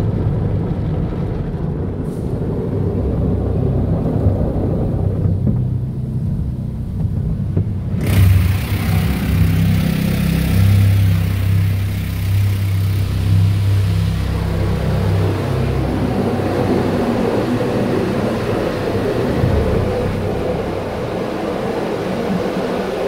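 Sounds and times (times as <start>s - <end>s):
low rumble of wash equipment: 0.0s - 23.0s.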